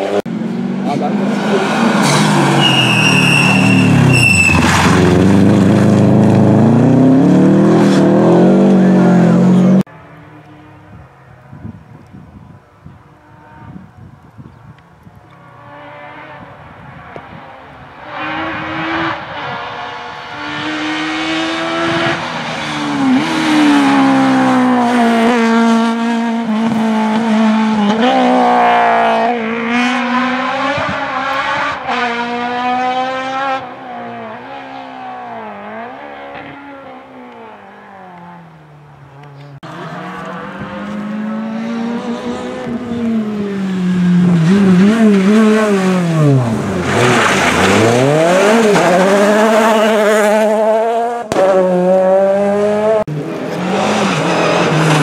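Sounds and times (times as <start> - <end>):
rally car engines passing: 0.0 - 11.8, 15.1 - 55.0.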